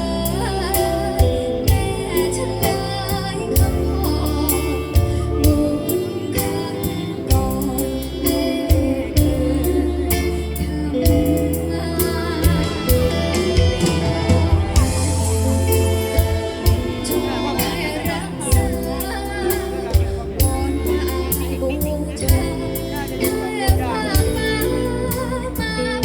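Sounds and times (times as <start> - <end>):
song with singing and drums: 0.0 - 26.0.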